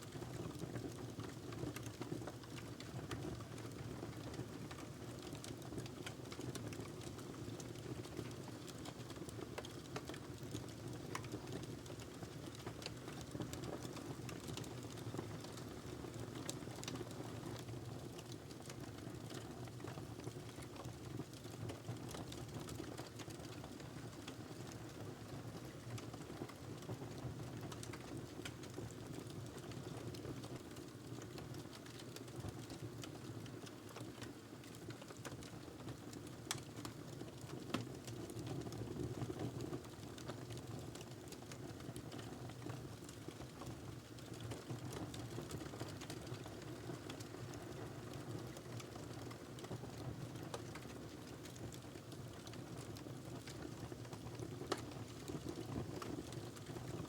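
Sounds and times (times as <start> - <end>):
log fire rumbling and crackling: 0.2 - 57.0.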